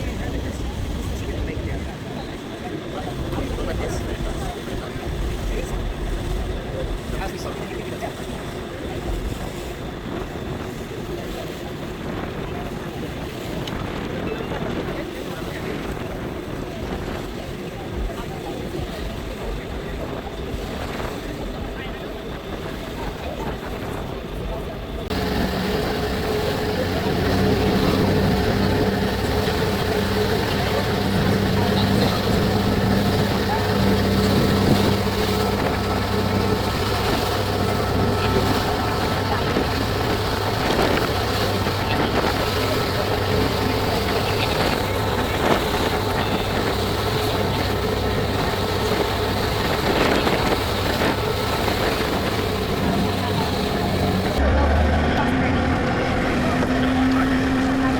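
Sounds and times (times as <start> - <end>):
ferry engines droning: 0.0 - 57.9
wind and water rushing: 0.0 - 57.9.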